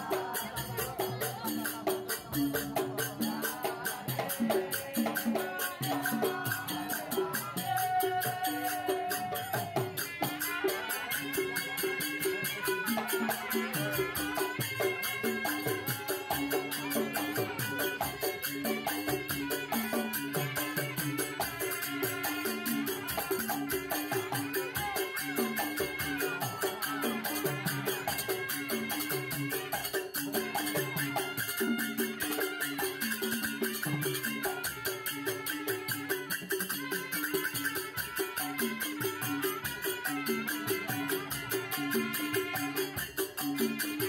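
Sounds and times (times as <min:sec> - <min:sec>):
rattling percussion beat: 0:00.0 - 0:44.0.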